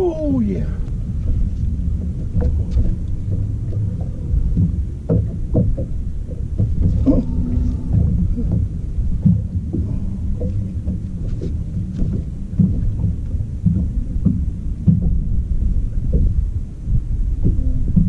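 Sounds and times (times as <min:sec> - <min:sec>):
irregular thumps: 0:00.0 - 0:18.0
wind buffeting microphone: 0:00.0 - 0:18.0.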